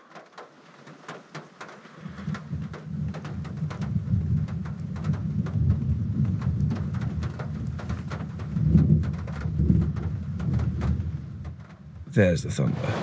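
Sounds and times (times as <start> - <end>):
rain on car roof: 0.0 - 13.0
thunder rumble: 0.2 - 13.0.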